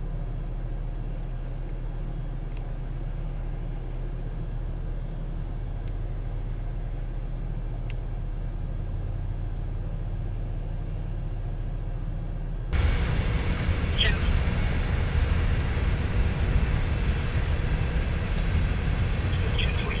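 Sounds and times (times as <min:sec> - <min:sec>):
car engine rumble from inside: 0:00.0 - 0:20.0.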